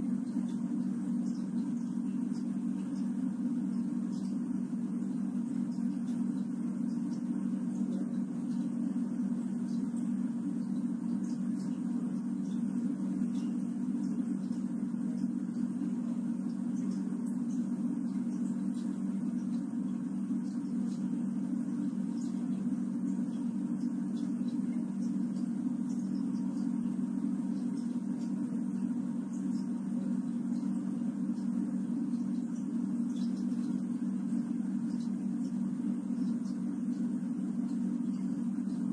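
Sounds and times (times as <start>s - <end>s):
electric fan humming: 0.0s - 38.9s.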